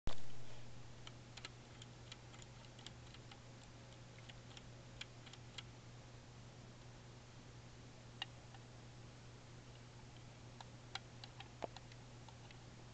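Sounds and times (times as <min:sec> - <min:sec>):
low steady hum: 0:00.1 - 0:12.9.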